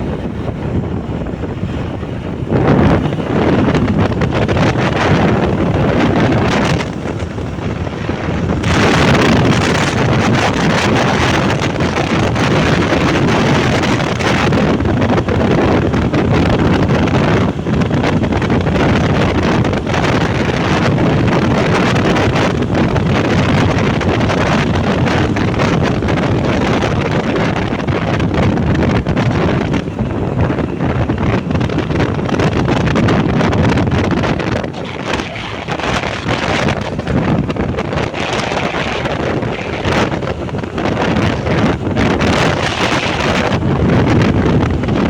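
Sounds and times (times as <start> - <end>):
motorbike running: 0.0 - 45.0
road noise: 0.0 - 45.0
wind buffeting microphone: 0.0 - 45.0.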